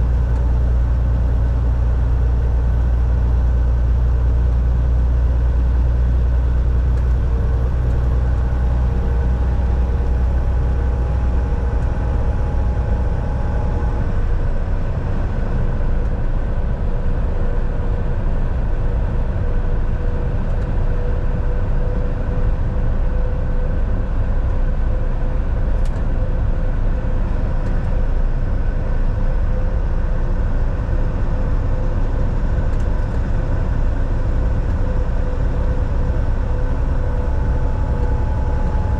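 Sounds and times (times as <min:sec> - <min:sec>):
road rumble: 0:00.0 - 0:38.9
truck diesel engine: 0:00.0 - 0:38.9.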